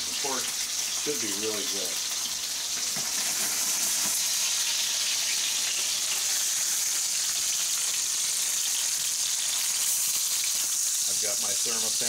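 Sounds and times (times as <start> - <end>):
steaks sizzling in hot oil: 0.0 - 12.0.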